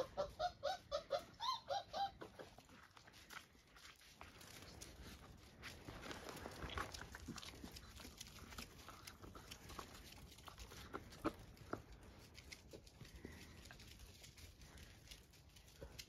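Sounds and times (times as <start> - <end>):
puppy paws clicking on concrete: 2.0 - 16.0
puppy chewing leather boot: 2.2 - 16.0.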